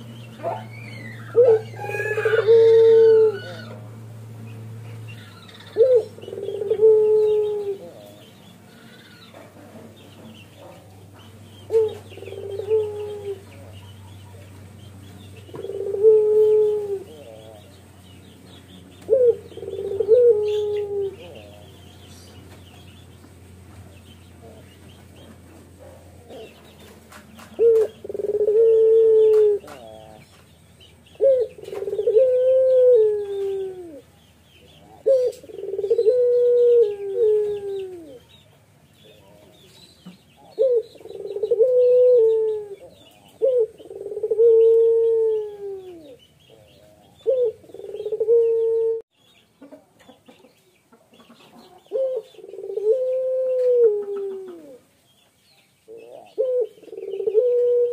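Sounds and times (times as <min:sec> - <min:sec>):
dove cooing: 0:00.0 - 0:17.8, 0:18.5 - 0:22.9, 0:23.8 - 0:30.4, 0:31.1 - 0:38.3, 0:40.4 - 0:49.1, 0:51.5 - 0:54.9, 0:55.9 - 0:57.9
small birds chirping: 0:00.0 - 0:57.9.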